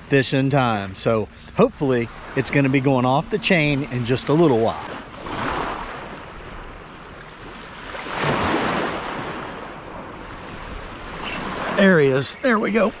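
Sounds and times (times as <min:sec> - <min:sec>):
ocean surf breaking: 0:00.6 - 0:13.0.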